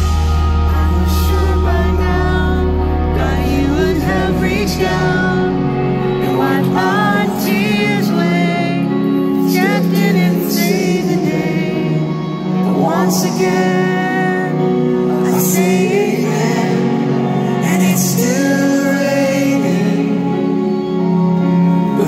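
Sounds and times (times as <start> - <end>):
live band playing worship song: 0.0 - 22.0
man singing: 0.0 - 22.0.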